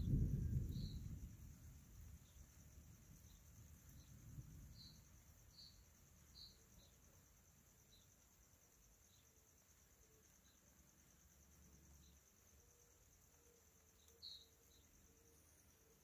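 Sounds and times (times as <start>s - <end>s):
faint insect trilling: 0.0s - 16.0s.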